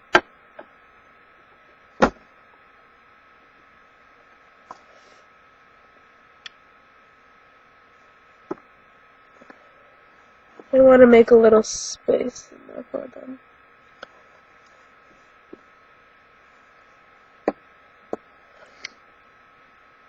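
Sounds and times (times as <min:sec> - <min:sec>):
faint steady hiss and hum: 0:00.0 - 0:20.0.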